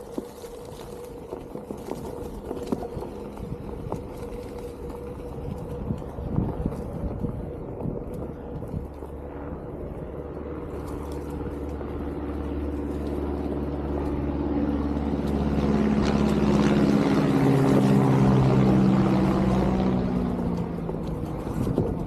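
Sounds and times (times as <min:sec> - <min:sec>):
electric hub motor humming: 0:00.0 - 0:22.0
tyre rumbling on trail: 0:00.0 - 0:22.0.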